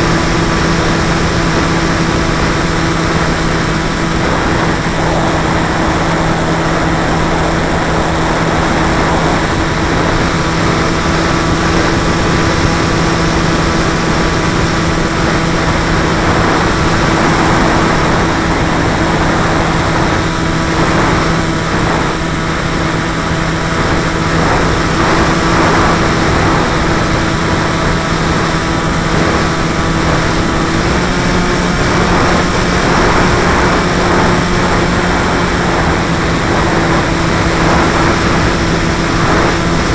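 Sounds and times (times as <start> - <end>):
model aircraft motor drone: 0.0 - 39.9
wind noise: 0.0 - 39.9.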